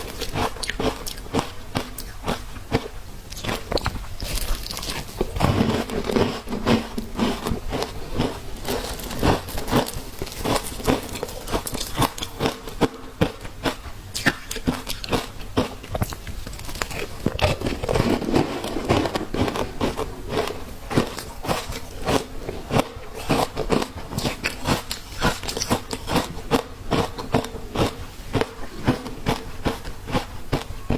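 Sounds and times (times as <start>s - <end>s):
person crunching ice: 0.0s - 30.9s.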